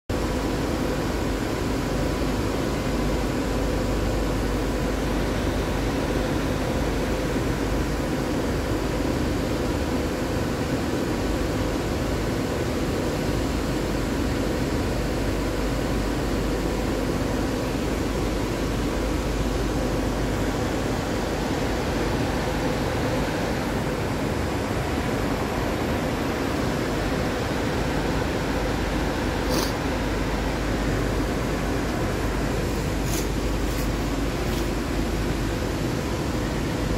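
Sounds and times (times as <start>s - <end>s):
machine-like hum and hiss: 0.1s - 36.9s.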